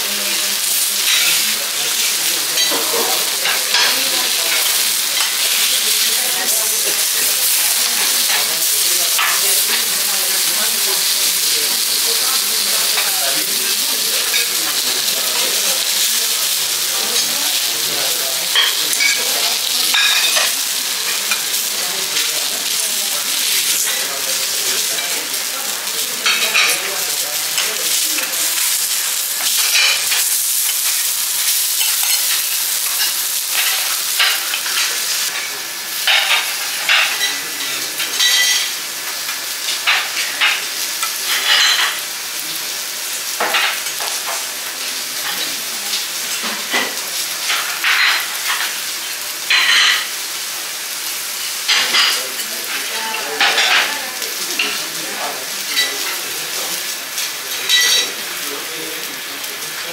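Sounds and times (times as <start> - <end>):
fish sizzling on griddle: 0.0 - 59.9.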